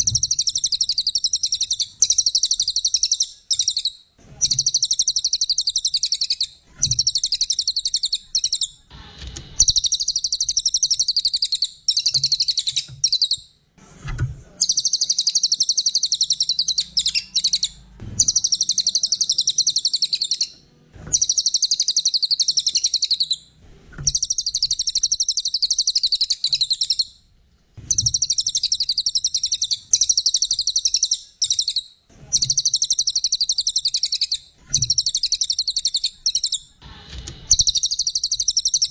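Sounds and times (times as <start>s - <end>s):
songbird chattering trills: 0.0s - 8.8s, 9.6s - 13.4s, 14.6s - 20.5s, 21.2s - 23.4s, 24.1s - 27.1s, 27.9s - 36.7s, 37.5s - 38.9s.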